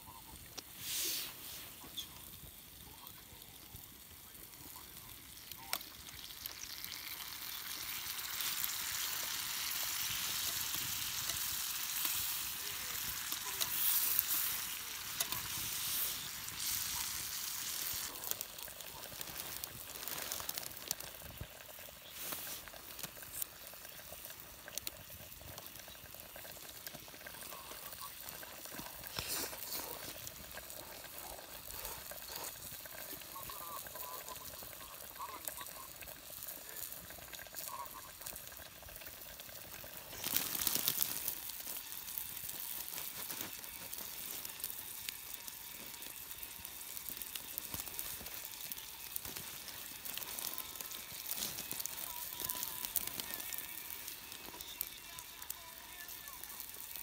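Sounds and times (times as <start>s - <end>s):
food sizzling over campfire: 0.0s - 57.0s.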